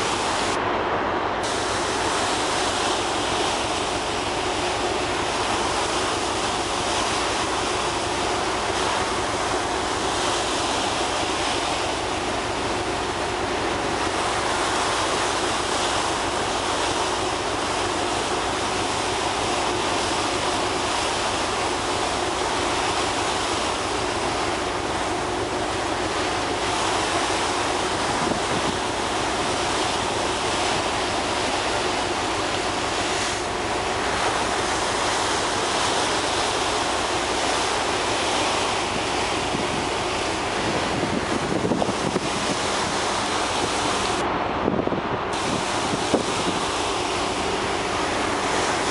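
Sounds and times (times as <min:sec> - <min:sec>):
sea water rushing: 0:00.0 - 0:48.9.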